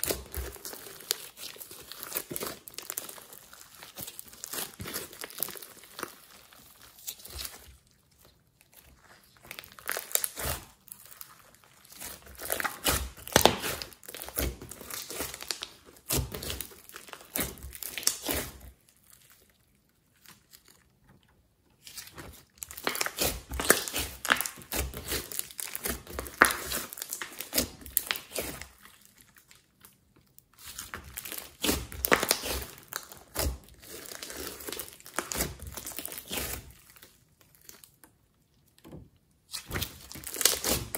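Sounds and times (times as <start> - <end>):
hands squishing slime: 0.0 - 20.7, 21.8 - 38.0, 39.4 - 40.9.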